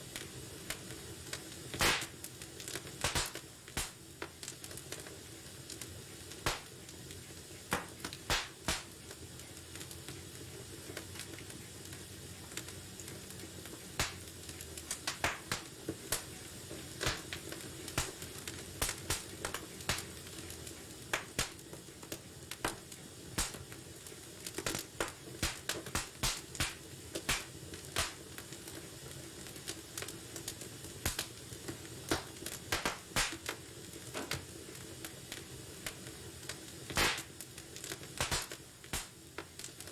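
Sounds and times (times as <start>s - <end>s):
fire crackles and pops: 0.0s - 39.9s
wood fire hissing: 0.0s - 39.9s.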